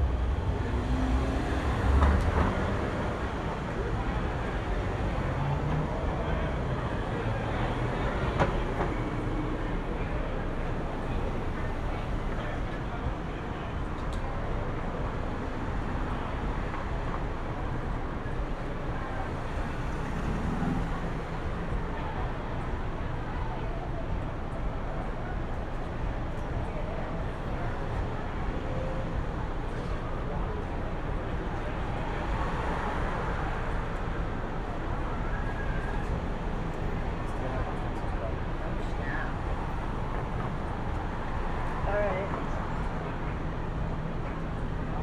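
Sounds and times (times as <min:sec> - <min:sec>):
passing traffic rumble: 0:00.0 - 0:45.0
urban hum: 0:00.0 - 0:45.0.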